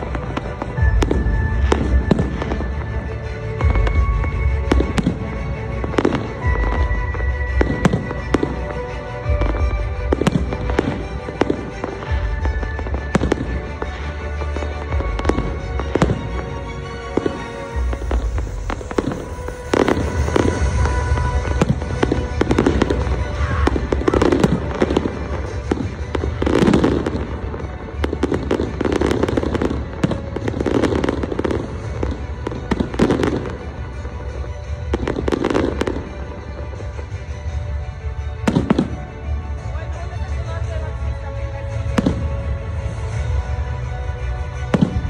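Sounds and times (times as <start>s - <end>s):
background music: 0.0s - 45.0s
fireworks bangs and booms: 0.0s - 45.0s.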